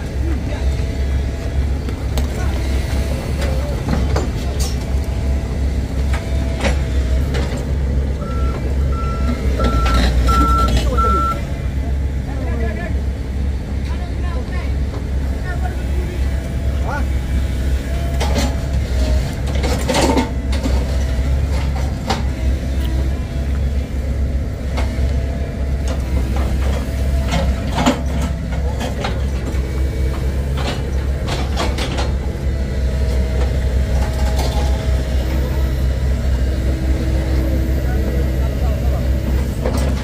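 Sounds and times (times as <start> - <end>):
diesel truck engine running: 0.0 - 40.0.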